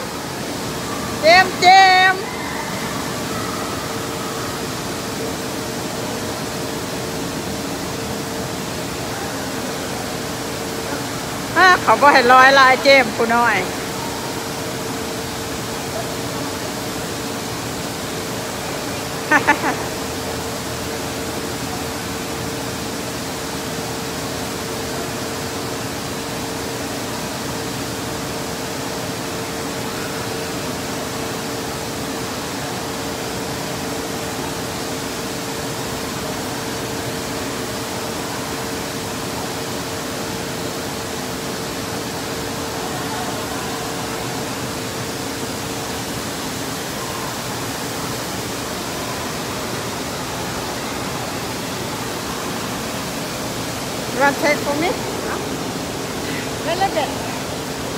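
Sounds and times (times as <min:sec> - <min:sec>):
running water rushing: 0:00.0 - 0:57.9
steady hum: 0:00.0 - 0:57.9.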